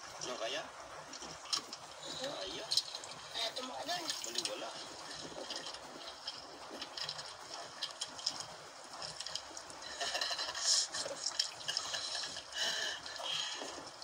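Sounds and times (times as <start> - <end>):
water lapping against boat hull: 0.0 - 14.0.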